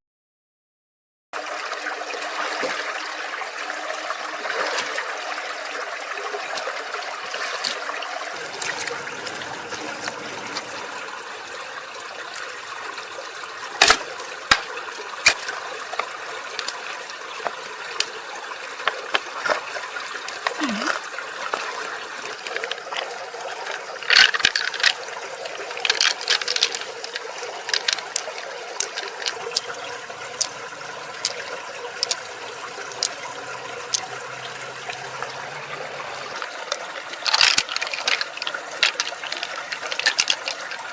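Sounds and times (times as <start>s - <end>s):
water trickling and splashing: 1.4s - 40.9s.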